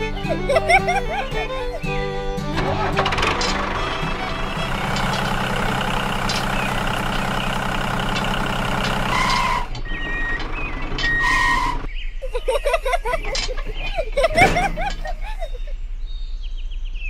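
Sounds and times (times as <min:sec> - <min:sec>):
tractor engine running: 0:00.0 - 0:11.9, 0:12.7 - 0:15.7.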